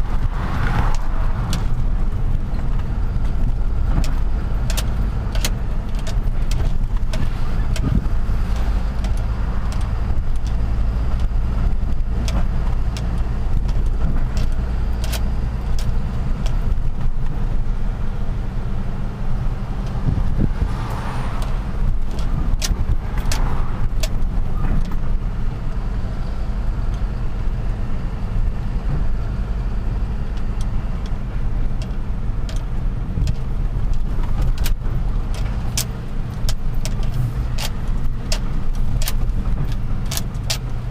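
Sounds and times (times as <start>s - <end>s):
truck engine droning: 0.0s - 40.9s
sharp clicks and knocks: 0.1s - 17.4s, 19.8s - 25.2s, 30.2s - 40.9s.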